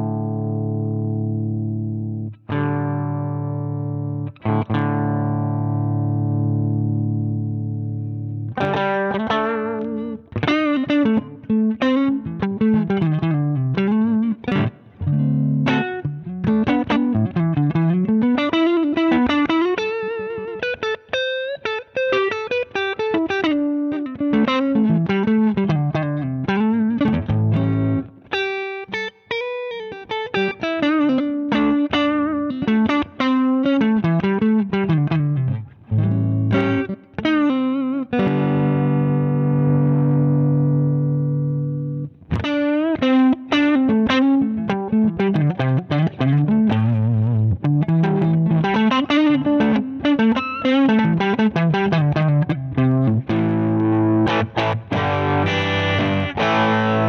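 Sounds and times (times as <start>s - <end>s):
overdriven electric guitar: 0.0s - 57.0s.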